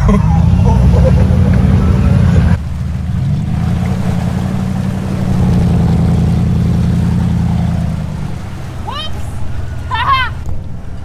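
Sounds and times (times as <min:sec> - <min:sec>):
car engine running: 0:00.0 - 0:11.0
water splashing around tyres: 0:01.4 - 0:11.0.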